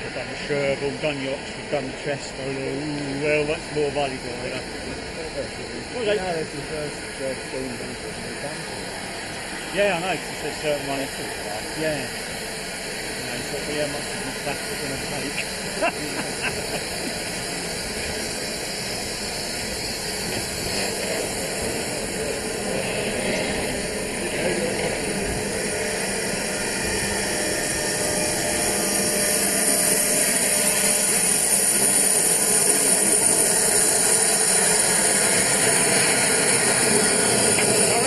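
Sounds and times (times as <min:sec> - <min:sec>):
steam locomotive hissing: 0:00.0 - 0:38.0.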